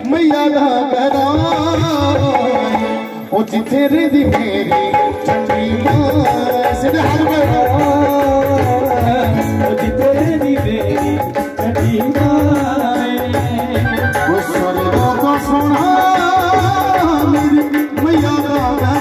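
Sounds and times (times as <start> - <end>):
dholak drum beat: 0.0 - 19.0.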